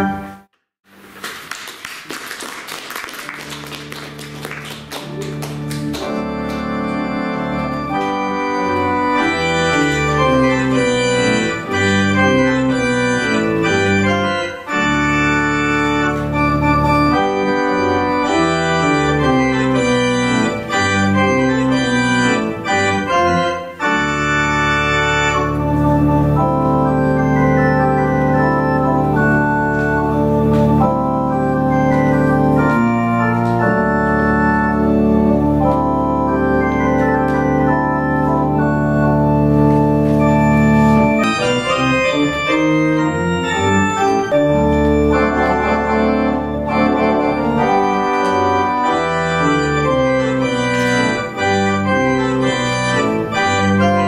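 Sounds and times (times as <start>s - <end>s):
organ playing chords: 0.0s - 1.2s, 3.2s - 54.0s.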